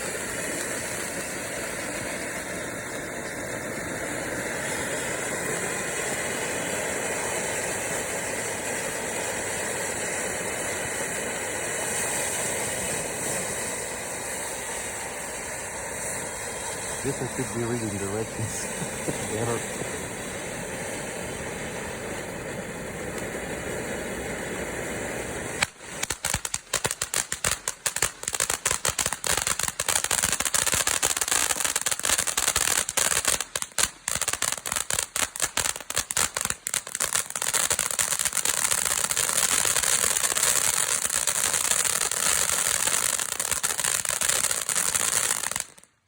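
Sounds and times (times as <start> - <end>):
firework crackling pops: 0.0 - 46.0
steady hiss: 0.0 - 46.0.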